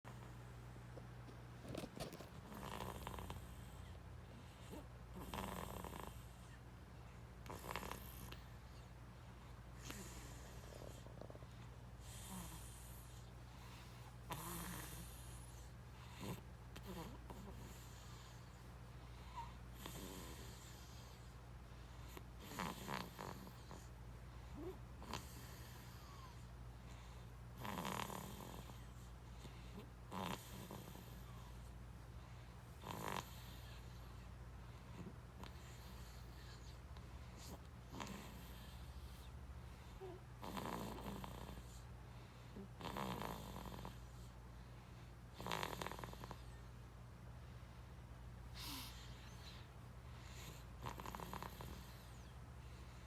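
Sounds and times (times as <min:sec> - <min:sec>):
low steady hum: 0:00.0 - 0:53.0
baby snoring softly: 0:01.7 - 0:06.6, 0:07.4 - 0:31.8, 0:32.8 - 0:44.4, 0:45.3 - 0:46.7, 0:48.5 - 0:53.0.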